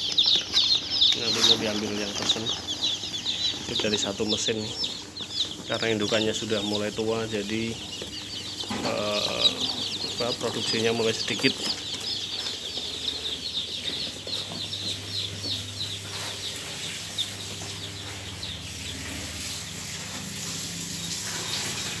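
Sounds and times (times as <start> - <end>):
chicks cheeping: 0.0 - 22.0
incubator hum: 0.0 - 22.0.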